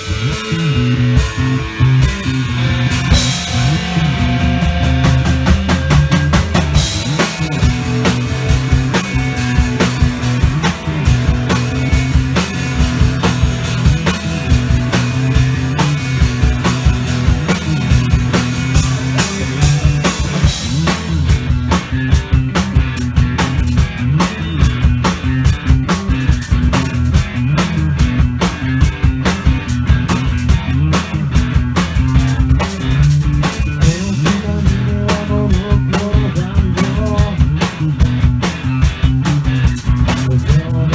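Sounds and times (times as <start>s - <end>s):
drum kit beat: 0.0s - 40.9s
electric bass: 0.0s - 40.9s
electric guitar: 0.0s - 40.9s.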